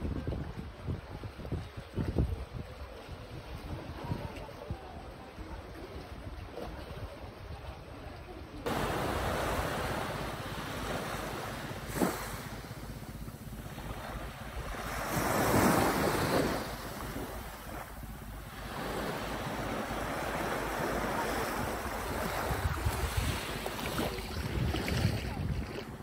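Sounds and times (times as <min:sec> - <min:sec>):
wind on microphone: 0:00.0 - 0:07.8, 0:08.8 - 0:26.0
small waves washing on sand: 0:00.0 - 0:26.0.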